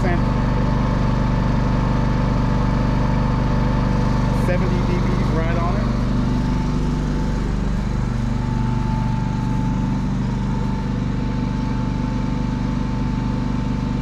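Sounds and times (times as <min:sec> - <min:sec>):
generator engine running: 0:00.0 - 0:14.0
thin steady whine: 0:00.0 - 0:14.0.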